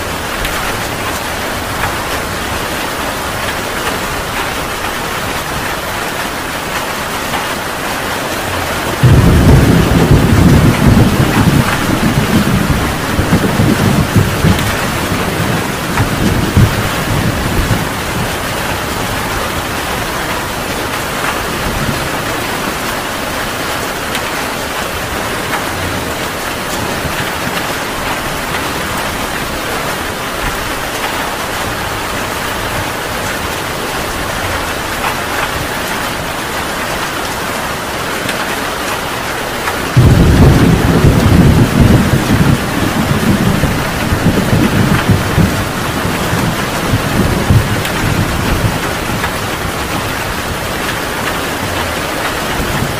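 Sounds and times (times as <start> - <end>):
thunder rumbling: 0.0 - 38.4, 39.0 - 52.9
heavy rain: 0.0 - 52.9.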